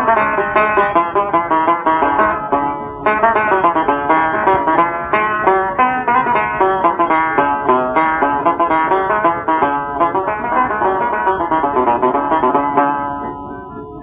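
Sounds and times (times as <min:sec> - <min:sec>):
plucked string instruments melody: 0:00.0 - 0:14.0.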